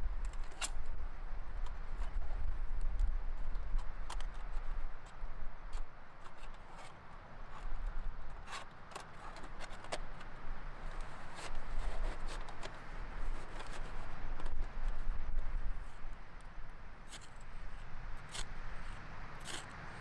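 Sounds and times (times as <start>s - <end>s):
wind rumbling on microphone: 0.0s - 8.6s, 9.2s - 20.0s.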